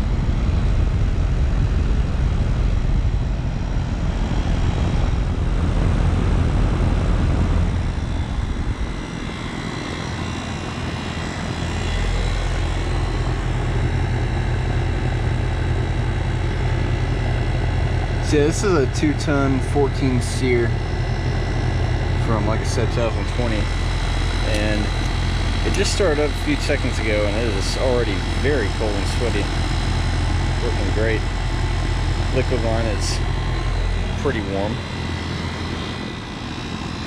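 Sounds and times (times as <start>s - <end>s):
compressor humming: 0.0s - 37.0s
fan whooshing: 0.0s - 37.0s.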